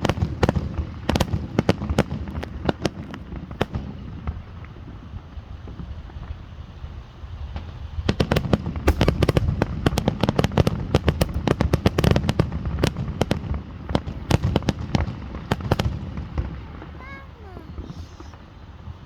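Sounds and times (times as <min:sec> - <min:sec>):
fireworks cracking and popping: 0:00.0 - 0:06.4, 0:07.5 - 0:19.0.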